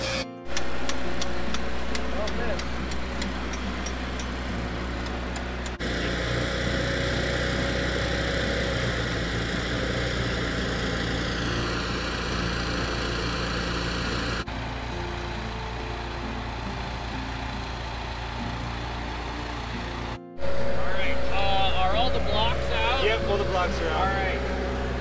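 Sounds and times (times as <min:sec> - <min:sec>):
engine idling: 0:00.4 - 0:25.0.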